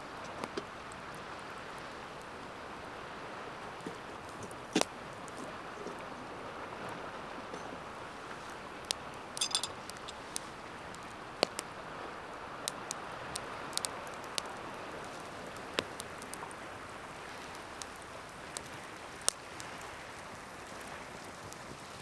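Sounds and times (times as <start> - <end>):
ocean waves: 0.0 - 22.0
campfire crackling and popping: 0.1 - 22.0.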